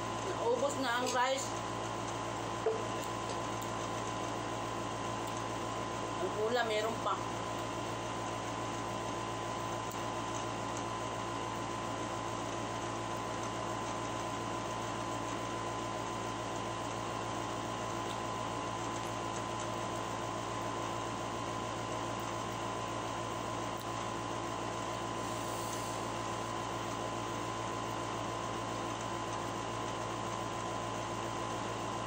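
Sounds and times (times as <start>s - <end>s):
appliance hum and whine: 0.0s - 32.0s.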